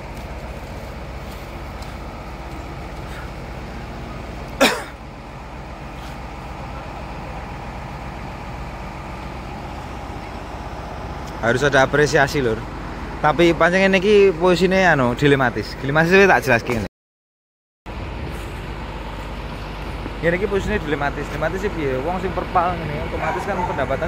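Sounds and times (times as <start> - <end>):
diesel bus idling: 0.0 - 16.9, 17.9 - 24.0.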